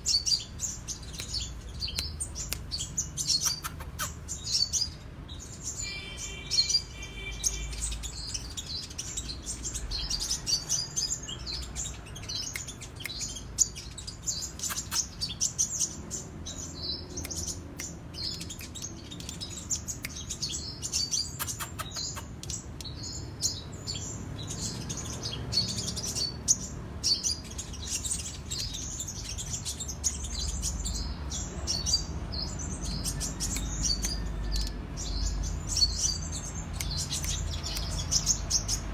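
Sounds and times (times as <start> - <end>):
bird chattering chirps: 0.0 - 38.9.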